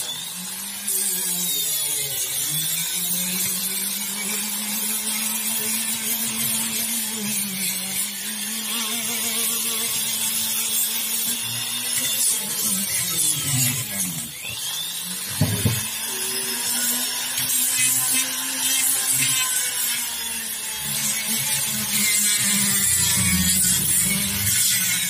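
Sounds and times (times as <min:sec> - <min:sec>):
rotary grinder whining: 0:00.0 - 0:25.0.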